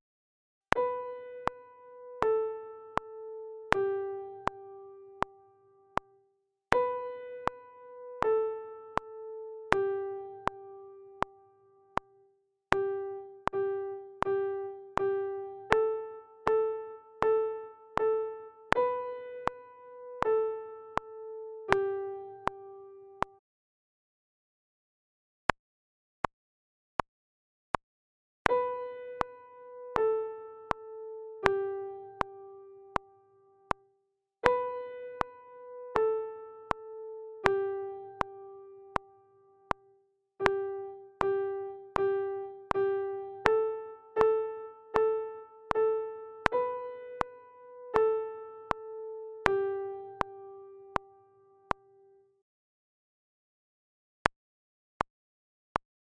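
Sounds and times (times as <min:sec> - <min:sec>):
slow piano notes: 0:00.7 - 0:23.4, 0:28.5 - 0:33.8, 0:34.4 - 0:52.3.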